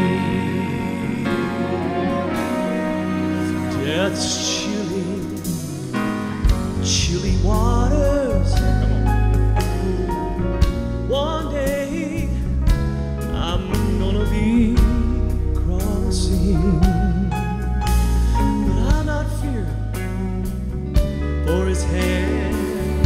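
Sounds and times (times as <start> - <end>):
man singing with vibrato: 0.0 - 10.5, 11.1 - 12.5, 13.3 - 17.6, 18.3 - 20.6, 21.4 - 23.0
band accompaniment: 0.0 - 23.0.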